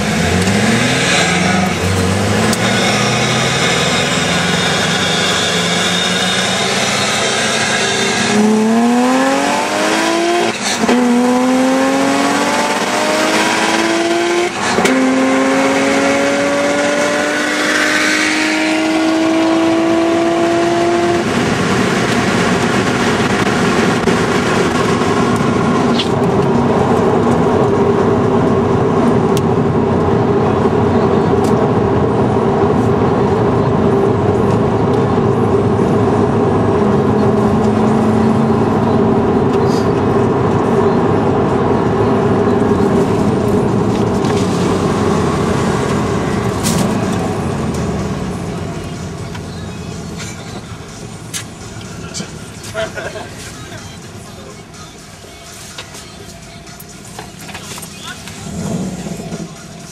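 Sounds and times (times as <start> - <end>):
car engine accelerating: 0.0 - 55.1, 56.6 - 59.9
wind and road noise: 0.0 - 59.9.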